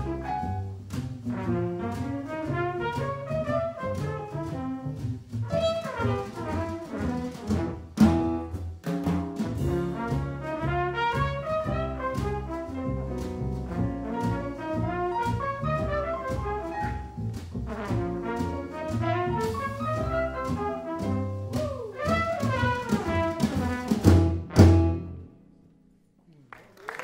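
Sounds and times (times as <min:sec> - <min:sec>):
jazz quartet playing: 0:00.0 - 0:25.3.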